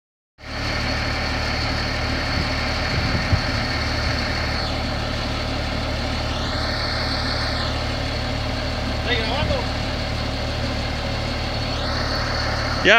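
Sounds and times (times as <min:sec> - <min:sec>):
diesel engine idling with whine: 0:00.4 - 0:12.9
rising and falling whine: 0:00.4 - 0:12.9.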